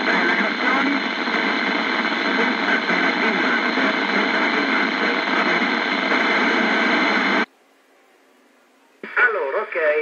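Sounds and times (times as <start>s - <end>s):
radio speaker hiss: 0.0s - 7.5s, 9.0s - 10.0s.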